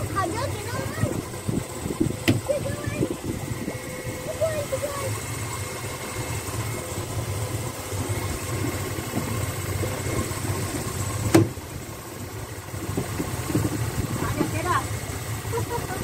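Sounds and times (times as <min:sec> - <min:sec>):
motorboat engine humming: 0:00.0 - 0:16.0.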